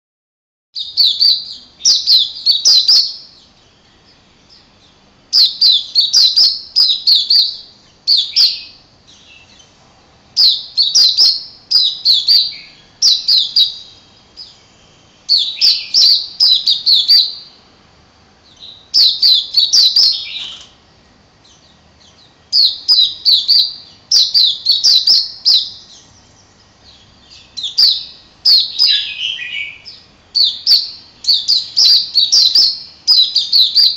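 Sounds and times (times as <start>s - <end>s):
bird singing high chirps: 0.8s - 17.7s, 18.4s - 20.8s, 21.4s - 33.9s.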